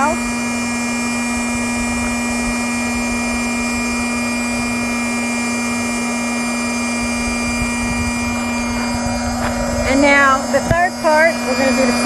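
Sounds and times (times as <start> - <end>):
electric air pump running: 0.0 - 12.0.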